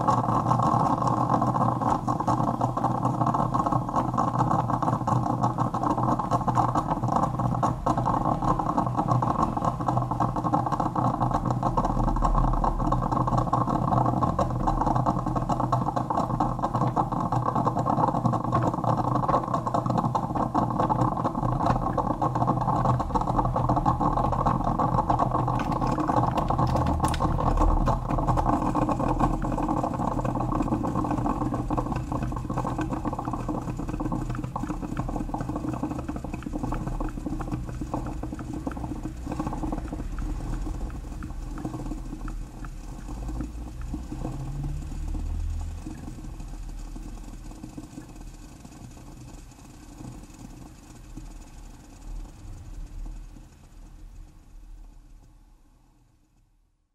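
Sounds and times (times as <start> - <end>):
coffee maker low hum: 0.0 - 56.5
coffee maker crackling sputter: 0.0 - 56.7.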